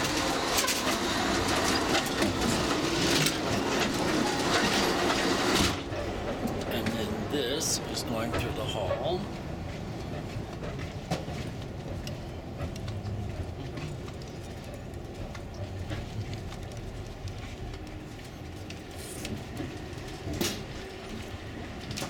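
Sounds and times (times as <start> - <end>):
train car running rumble: 0.0 - 22.0.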